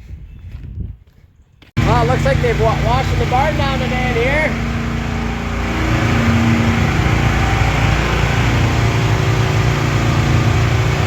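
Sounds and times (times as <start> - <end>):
tractor engine running: 1.8 - 11.0.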